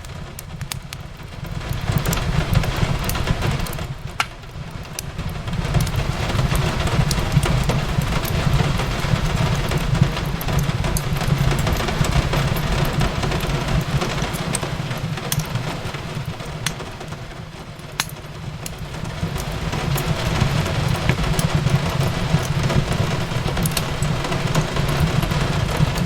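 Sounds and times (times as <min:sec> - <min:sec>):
fireplace crackling: 0:00.0 - 0:26.0
rain hiss: 0:00.1 - 0:26.0.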